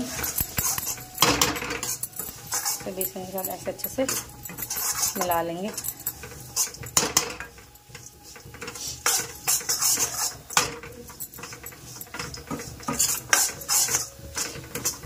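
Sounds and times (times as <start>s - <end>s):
metal spoon stirring in a pot: 0.0s - 15.0s.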